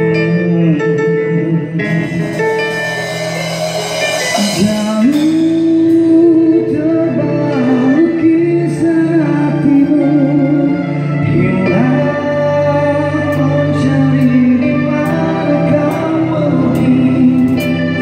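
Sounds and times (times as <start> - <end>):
person singing: 0.0 - 2.9, 4.0 - 18.0
band playing: 0.0 - 18.0
guitar: 0.0 - 18.0.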